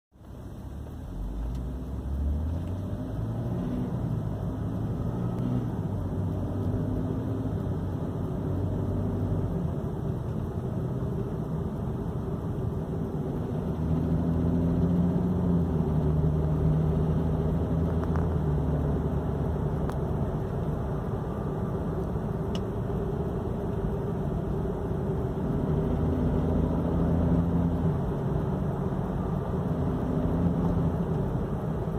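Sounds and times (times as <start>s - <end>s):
car engine under load: 0.1s - 31.9s.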